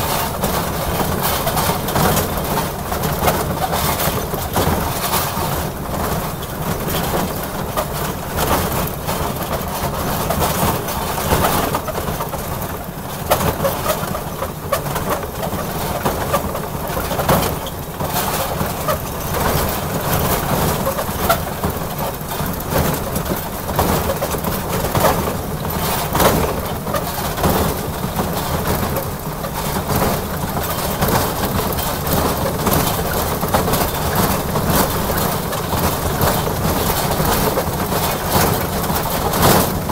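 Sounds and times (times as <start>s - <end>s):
ride-on train rumbling: 0.0s - 39.9s
wheels clacking on rails: 0.0s - 39.9s.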